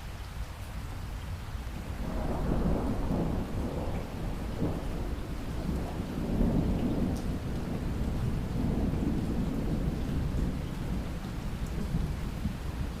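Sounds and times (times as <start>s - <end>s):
steady rain hiss: 0.0s - 13.0s
thunder rumbling: 1.9s - 13.0s.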